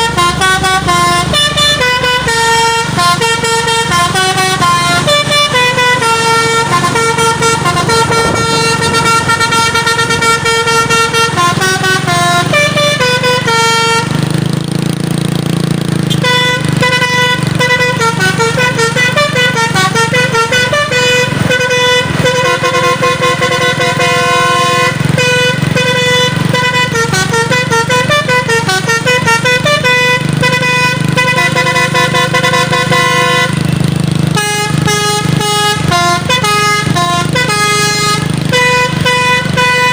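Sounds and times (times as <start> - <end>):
multi-tone truck horn melody: 0.0 - 39.9.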